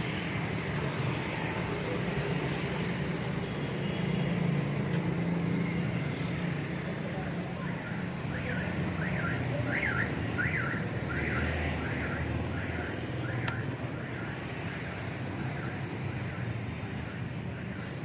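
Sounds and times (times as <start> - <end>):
low traffic hum: 0.0 - 18.0.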